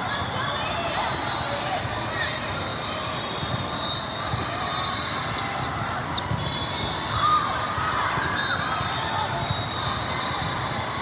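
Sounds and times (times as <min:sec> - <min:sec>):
murmur of voices: 0:00.0 - 0:11.0
sneakers squeaking: 0:01.1 - 0:07.4, 0:08.0 - 0:11.0.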